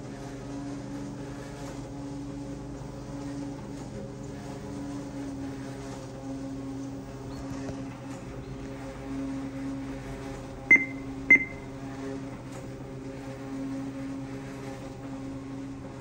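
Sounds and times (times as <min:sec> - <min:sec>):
treadmill motor and belt humming: 0:00.0 - 0:16.0.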